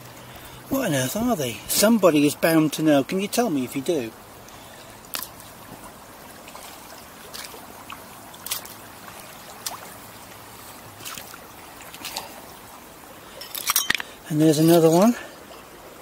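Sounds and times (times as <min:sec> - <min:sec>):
boots wading through water over pebbles: 0:00.0 - 0:16.0
flowing river water: 0:00.0 - 0:16.0.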